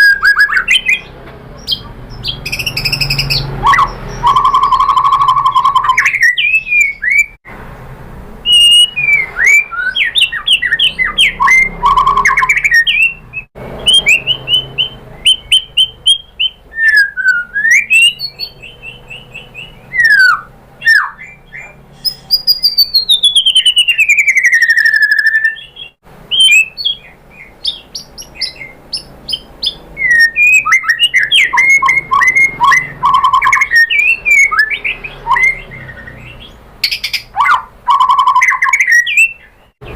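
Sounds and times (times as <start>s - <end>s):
songbird whistling and trilling: 0.0s - 7.4s, 8.4s - 39.9s.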